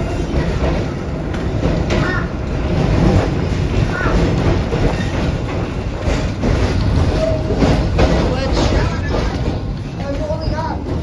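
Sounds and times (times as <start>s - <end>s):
trolley car rumbling on rails: 0.0s - 11.0s.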